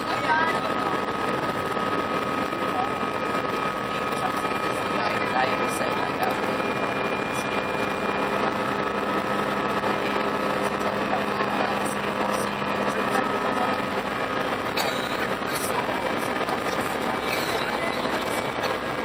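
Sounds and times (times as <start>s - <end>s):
jet engine roar in cabin: 0.0s - 19.0s
low hum: 0.0s - 19.0s.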